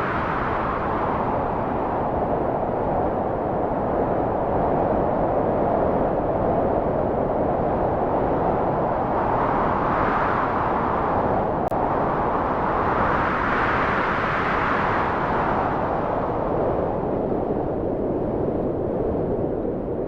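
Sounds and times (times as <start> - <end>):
wind blowing: 0.0 - 20.0.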